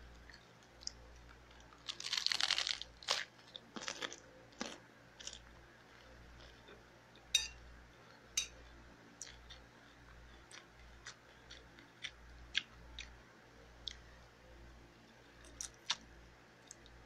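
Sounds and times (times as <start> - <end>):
chewing and crunching food: 0.0 - 7.3, 8.0 - 13.2, 13.8 - 14.1, 15.0 - 17.0.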